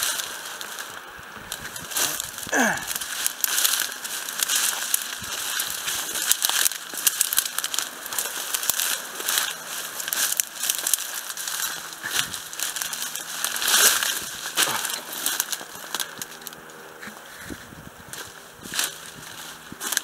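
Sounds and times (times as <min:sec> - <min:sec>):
dry twigs crackling and snapping: 0:00.0 - 0:20.0.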